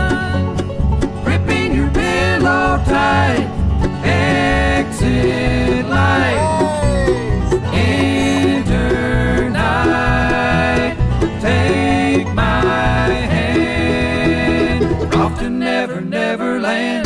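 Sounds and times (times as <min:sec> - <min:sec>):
guitar playing: 0:00.0 - 0:15.7
plucked banjo: 0:00.0 - 0:15.9.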